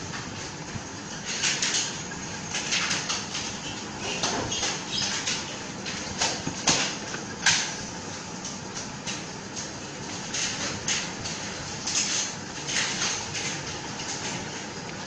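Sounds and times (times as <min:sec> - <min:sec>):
wires and plastic rustling: 0:00.0 - 0:15.0.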